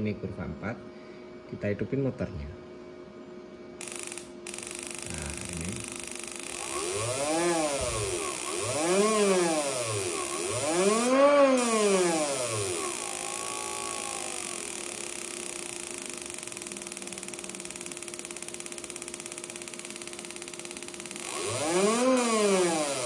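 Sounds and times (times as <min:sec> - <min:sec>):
motorcycle engine revving: 0:03.8 - 0:23.0.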